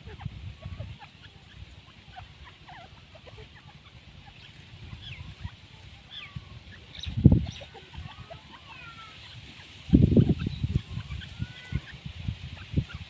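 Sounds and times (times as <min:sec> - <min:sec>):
birds chirping and clucking: 0:00.0 - 0:13.0.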